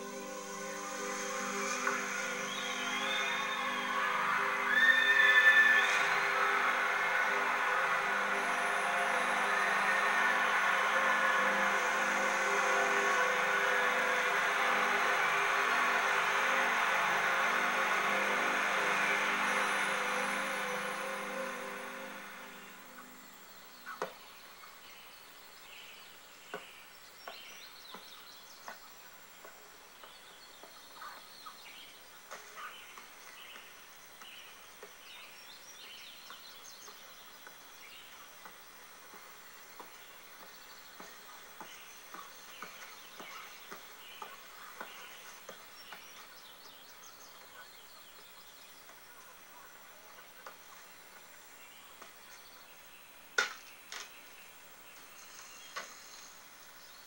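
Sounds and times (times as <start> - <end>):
faint birdsong: 0.0 - 57.0.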